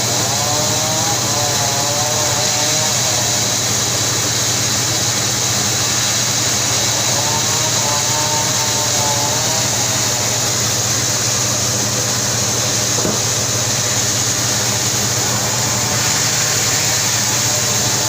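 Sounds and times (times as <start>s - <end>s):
sawmill saw running: 0.0s - 18.0s.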